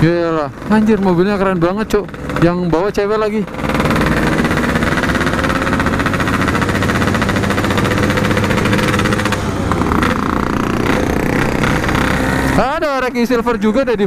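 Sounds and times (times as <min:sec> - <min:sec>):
two-stroke engine buzzing: 0:00.0 - 0:14.0.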